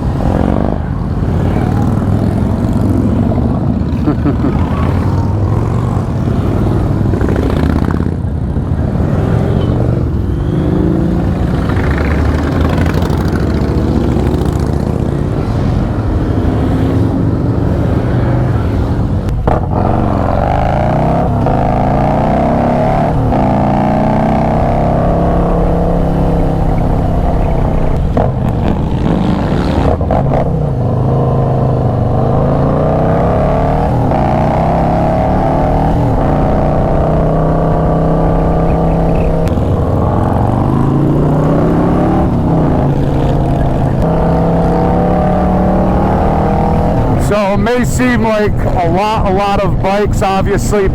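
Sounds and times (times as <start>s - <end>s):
motorcycle engines revving: 0.0s - 50.9s.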